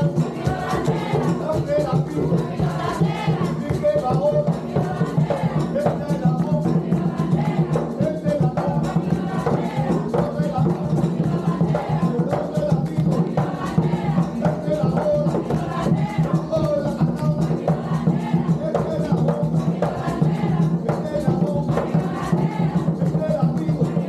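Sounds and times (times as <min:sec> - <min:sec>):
barrel drums playing: 0:00.0 - 0:24.0.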